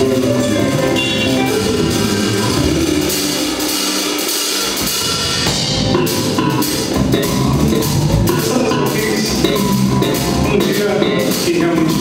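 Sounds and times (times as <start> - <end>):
drum kit with cymbals: 0.0 - 12.0
electric bass: 0.0 - 12.0.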